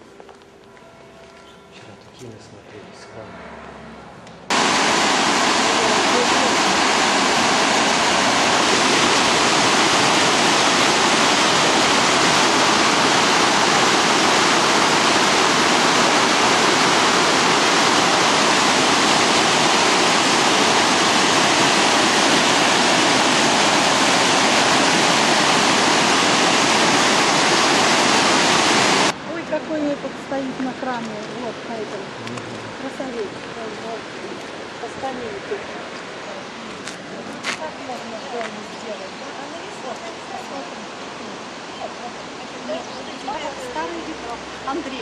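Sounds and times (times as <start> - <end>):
river water rushing over weir: 4.5 - 29.6, 32.2 - 45.0.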